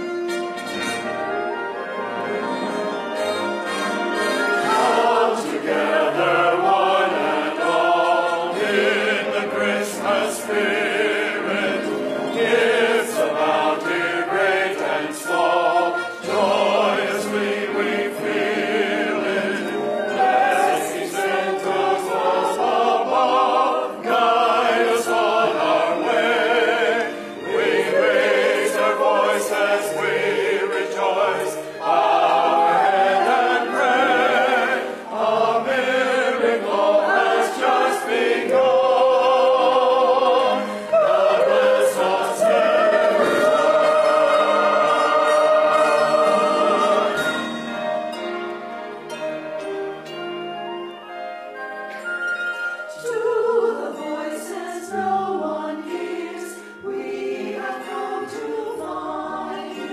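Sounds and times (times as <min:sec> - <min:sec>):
mixed choir singing: 0:02.0 - 0:48.7, 0:52.9 - 0:59.9.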